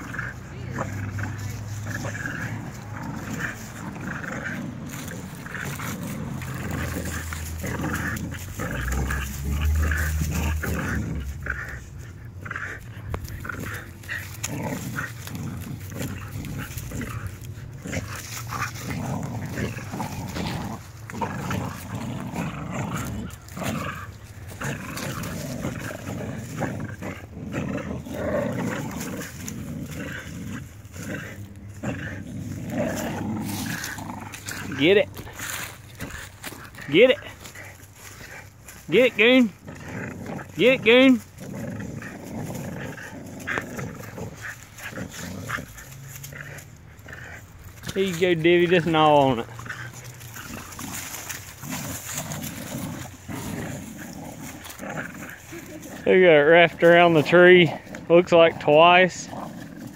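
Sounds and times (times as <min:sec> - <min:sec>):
dogs growling: 0:00.0 - 0:59.9
scuffling over dry leaves: 0:00.0 - 0:59.9.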